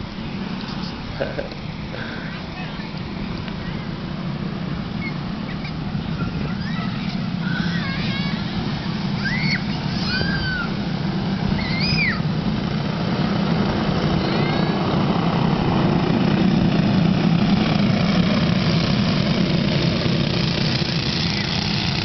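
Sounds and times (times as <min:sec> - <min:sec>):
go-kart engines racing: 0:00.1 - 0:22.0.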